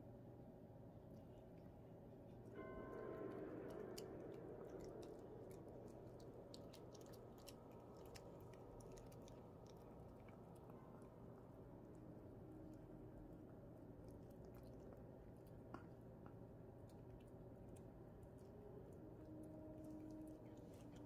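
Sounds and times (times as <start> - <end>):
puppy chewing treat crunching: 3.3 - 21.0.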